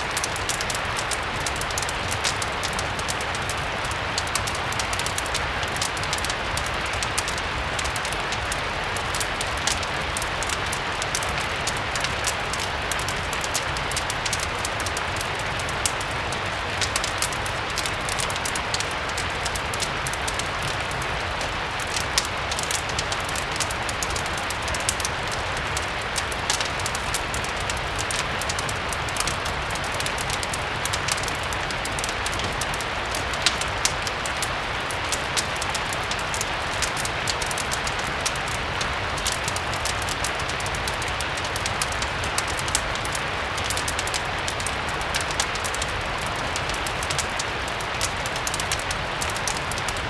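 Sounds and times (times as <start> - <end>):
steady rain falling: 0.0 - 50.0
wood fire crackling: 0.0 - 50.0.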